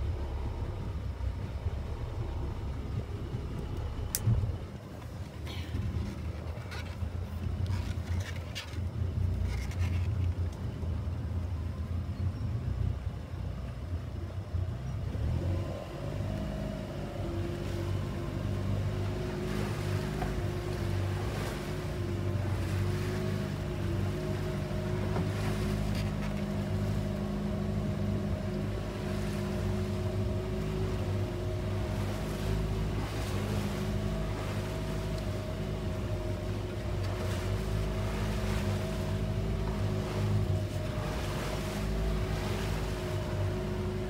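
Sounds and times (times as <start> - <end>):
motorboat engine running: 0.0 - 44.0
water splashing against hull: 0.0 - 44.0.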